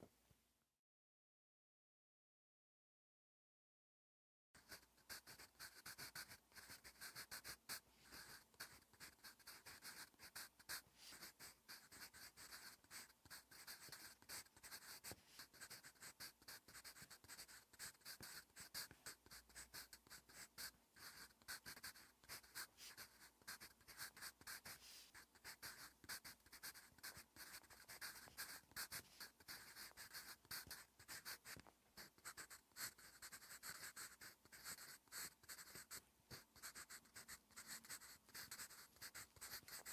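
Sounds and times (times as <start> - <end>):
pencil scratching on paper: 4.6 - 39.9.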